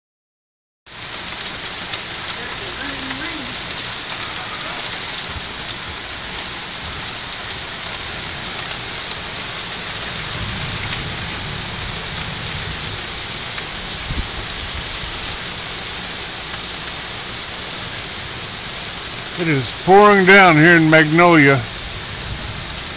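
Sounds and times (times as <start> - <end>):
heavy rain pouring: 0.9 - 22.9.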